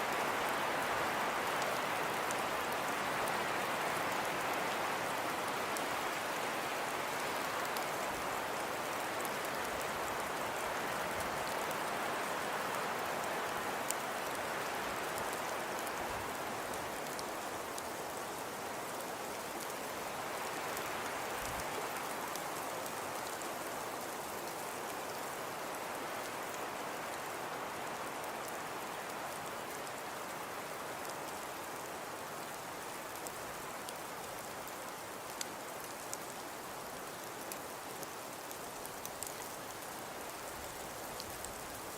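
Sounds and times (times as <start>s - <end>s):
hiss of falling precipitation: 0.0s - 41.9s.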